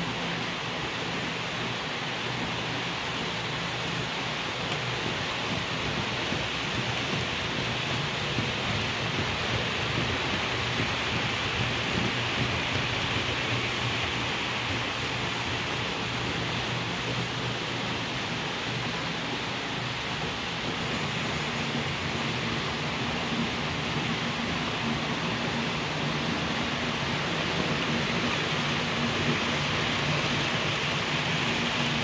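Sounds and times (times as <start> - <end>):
model train wheels rattling on rail: 0.0 - 32.0.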